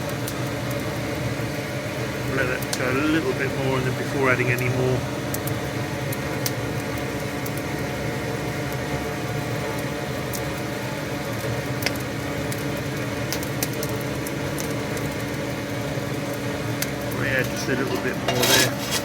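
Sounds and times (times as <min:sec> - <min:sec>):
fire crackling: 0:00.0 - 0:19.0.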